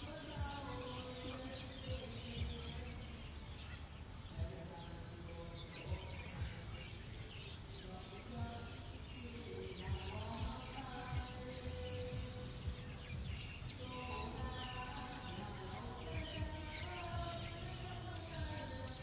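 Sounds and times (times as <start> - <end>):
faint bird calls: 0.0 - 19.0
small birds chirping: 0.0 - 19.0
soft low thumps: 0.0 - 19.0.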